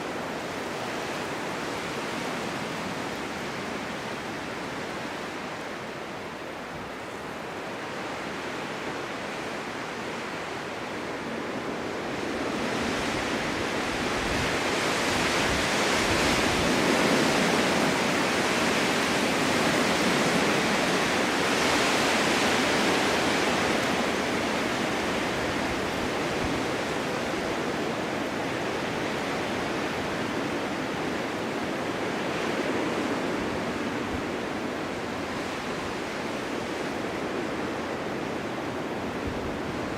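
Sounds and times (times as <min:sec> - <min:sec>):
snowstorm wind blowing: 0:00.0 - 0:39.9.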